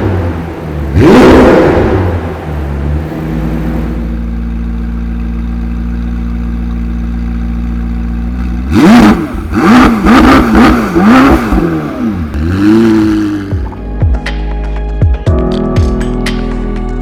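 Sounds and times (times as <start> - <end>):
engine revving in throttle blips: 0.0 - 13.8
car engine idling: 0.0 - 14.8.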